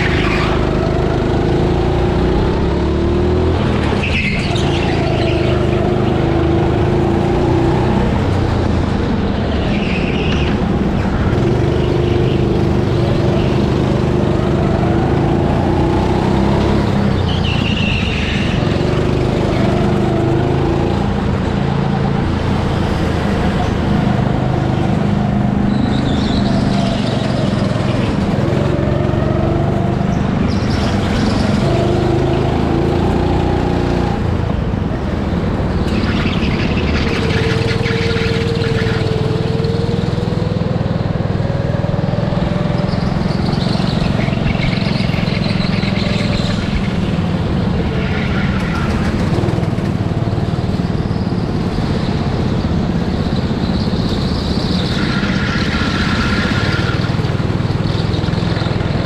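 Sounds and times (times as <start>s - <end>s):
go-kart motor revving: 0.0s - 34.6s, 35.4s - 59.0s.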